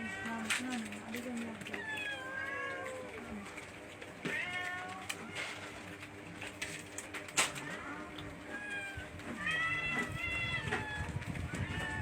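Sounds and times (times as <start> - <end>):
cats meowing: 0.0 - 5.9, 7.4 - 12.0.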